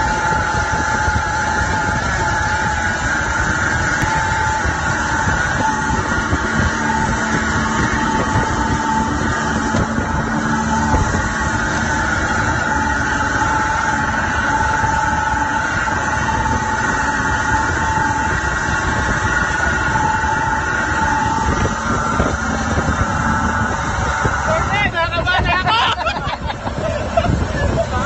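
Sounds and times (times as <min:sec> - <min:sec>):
faint whine: 0:00.0 - 0:28.0
motorboat engine running: 0:00.0 - 0:28.0
wind rushing over microphone: 0:00.0 - 0:28.0.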